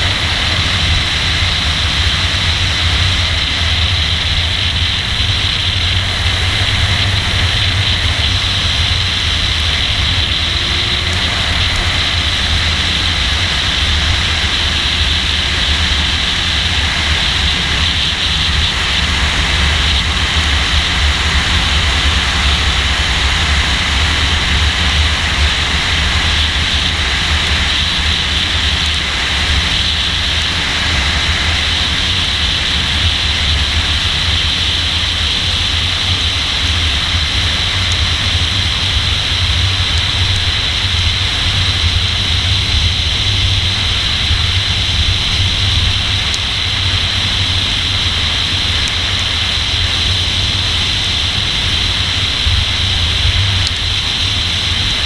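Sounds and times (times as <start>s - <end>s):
low engine rumble: 0.0s - 55.0s
wind and road noise: 0.0s - 55.0s.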